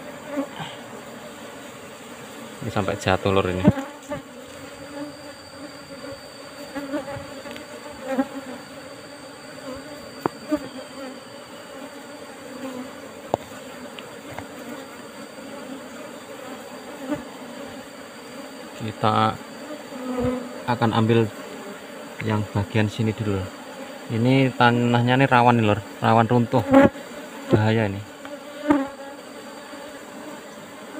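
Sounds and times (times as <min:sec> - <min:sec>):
bees buzzing: 0:00.0 - 0:30.9.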